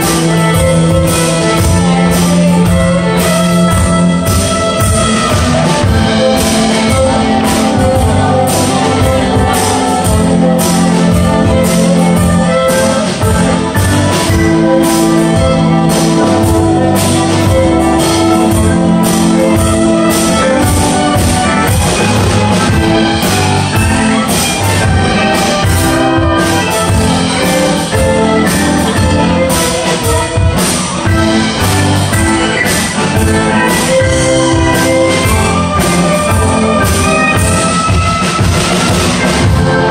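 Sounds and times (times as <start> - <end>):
fiddle keyboard and percussion band: 0.0 - 39.9.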